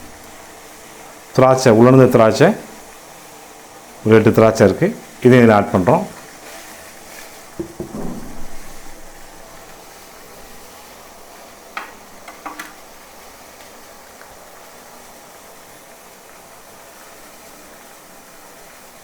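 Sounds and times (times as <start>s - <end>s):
water heating in pan hiss: 0.0s - 19.0s.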